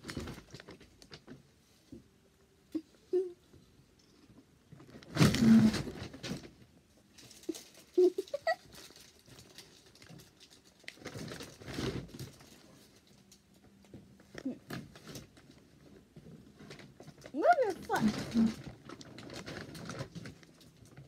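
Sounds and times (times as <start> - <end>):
rustling and shuffling: 0.0 - 21.0.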